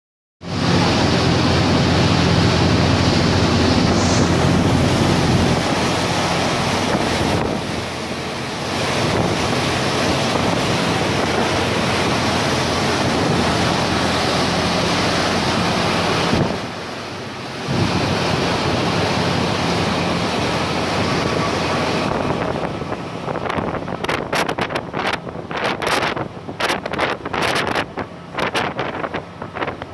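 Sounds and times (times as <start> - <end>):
low boat engine hum: 0.4 - 29.9
rush of boat wake: 0.4 - 29.9
wind buffeting microphone: 0.5 - 16.8, 17.6 - 29.9.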